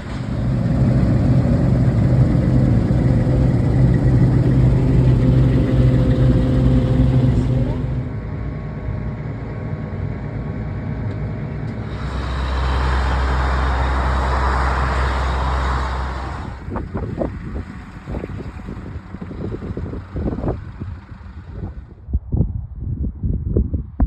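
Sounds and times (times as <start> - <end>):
farm machinery engine running: 0.0 - 22.0
loud rushing noise: 0.0 - 22.0.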